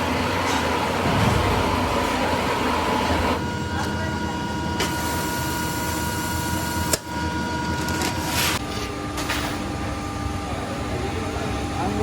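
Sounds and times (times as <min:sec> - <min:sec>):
factory machinery humming: 0:00.0 - 0:12.0
thin machine whine: 0:00.0 - 0:12.0.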